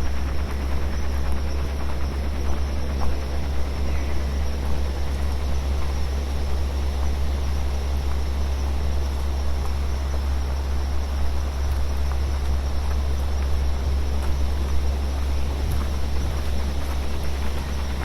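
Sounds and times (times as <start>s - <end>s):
synthesized noise rumble and hiss: 0.0s - 18.0s.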